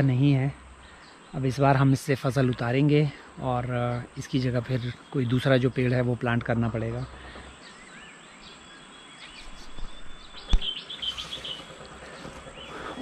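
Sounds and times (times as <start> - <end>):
outdoor hiss: 0.0 - 13.0
small birds chirping: 0.0 - 13.0.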